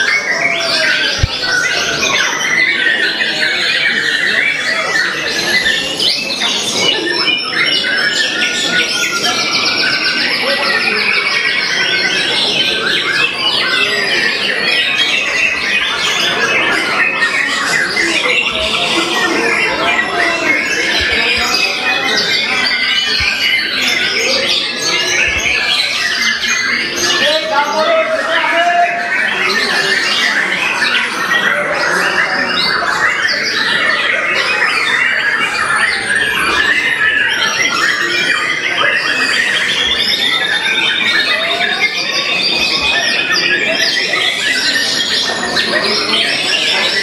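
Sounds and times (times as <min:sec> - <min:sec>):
bird singing chirps and trills: 0:00.0 - 0:47.0.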